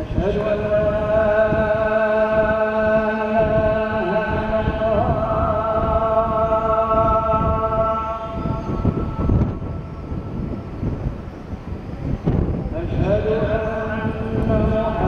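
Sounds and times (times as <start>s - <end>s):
man chanting recitation: 0.0s - 10.4s, 12.6s - 15.0s.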